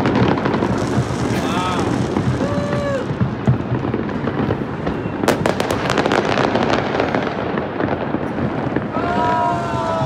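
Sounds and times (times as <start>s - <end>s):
fireworks crackling pops: 0.0s - 10.0s
steady din of fireworks: 0.0s - 10.0s.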